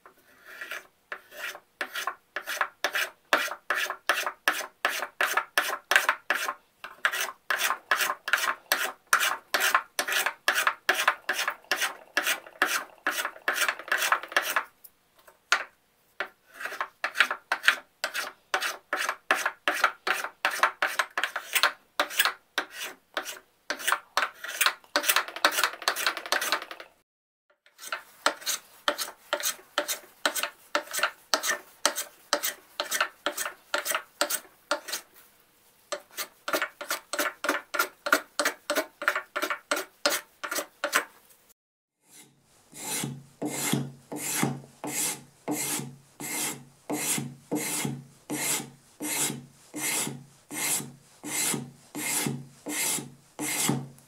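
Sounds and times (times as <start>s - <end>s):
hand plane scraping wood: 0.1s - 14.7s, 16.2s - 26.8s, 27.7s - 35.1s, 35.9s - 41.1s, 42.1s - 54.0s.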